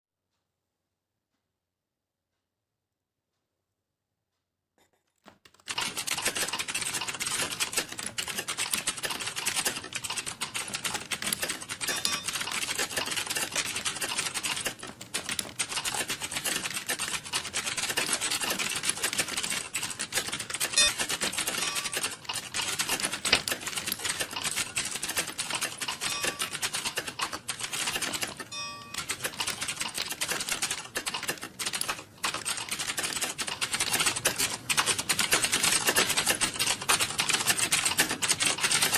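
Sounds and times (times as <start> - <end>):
typing on computer keyboard: 5.2 - 38.9.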